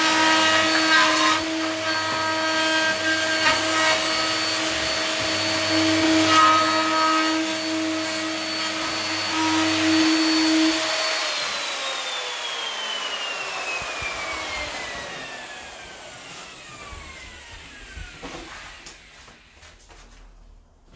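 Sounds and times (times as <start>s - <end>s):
router whining and spinning down: 0.0s - 19.5s.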